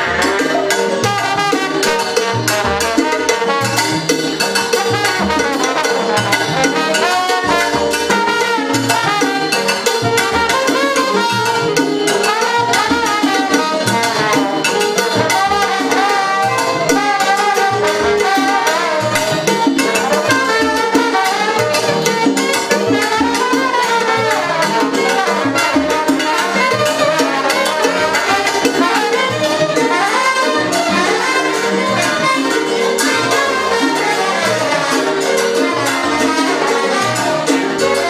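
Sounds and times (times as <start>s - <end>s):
latin percussion: 0.0s - 38.0s
salsa big band playing: 0.0s - 38.0s
trombone: 0.0s - 38.0s.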